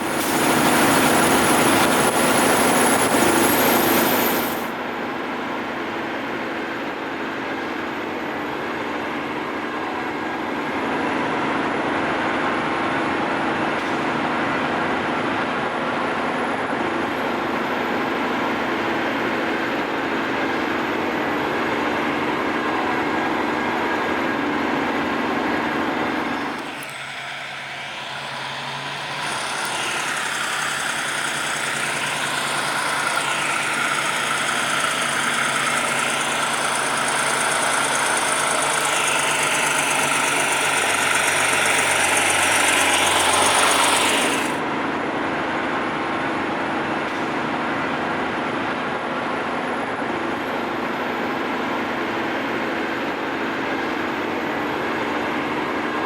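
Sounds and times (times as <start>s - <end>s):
truck engine: 0.0s - 4.8s, 7.9s - 56.0s.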